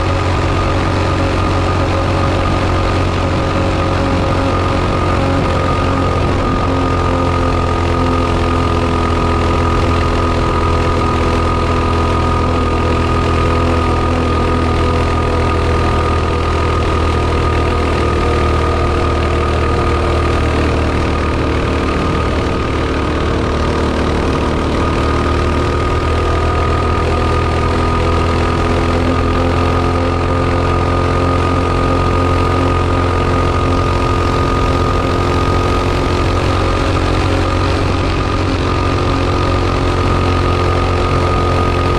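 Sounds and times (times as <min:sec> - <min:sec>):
mini bike engine running: 0:00.0 - 0:41.9.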